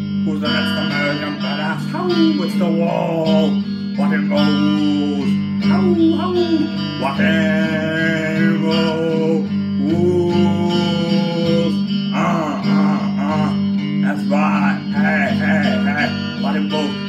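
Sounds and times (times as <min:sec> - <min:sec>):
guitar music: 0:00.0 - 0:17.0
man singing long notes: 0:00.0 - 0:17.0.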